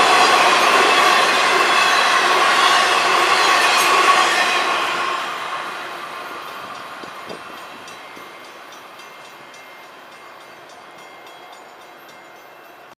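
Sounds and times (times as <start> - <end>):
freight train running: 0.0 - 13.0
railroad crossing bell ringing: 0.0 - 13.0.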